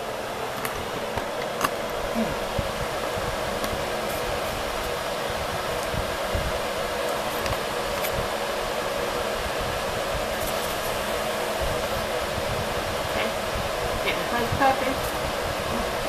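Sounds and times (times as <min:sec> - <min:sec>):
fan whooshing hum: 0:00.0 - 0:16.0.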